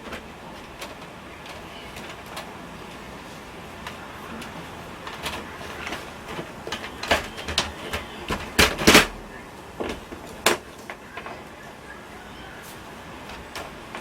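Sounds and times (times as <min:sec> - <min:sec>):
hard parts knocking and clattering: 0:00.0 - 0:11.7.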